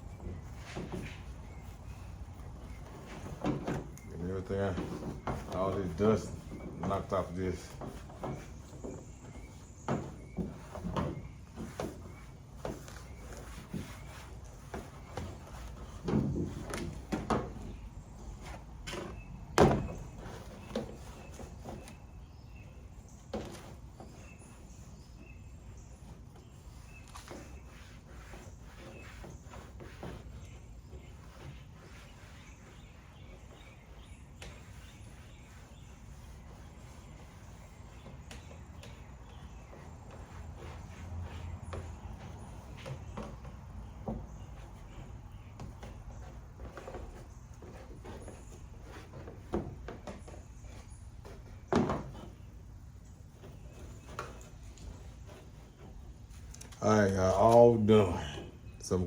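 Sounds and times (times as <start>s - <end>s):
rag rubbing plastic parts: 0.0s - 59.0s
rustling and handling noise: 0.0s - 59.0s.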